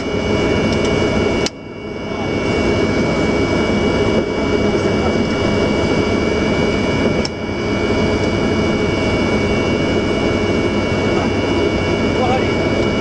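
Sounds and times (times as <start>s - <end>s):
jet engines roaring and whining: 0.0s - 13.0s.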